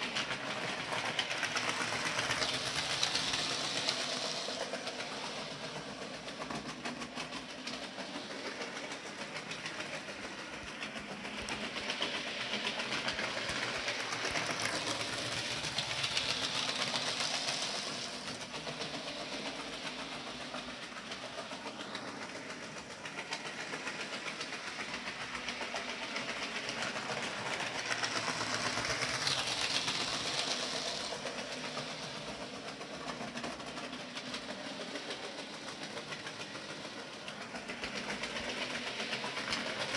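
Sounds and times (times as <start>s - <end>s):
model train motor whirring: 0.0s - 39.9s
wheels rolling over track: 0.0s - 39.9s.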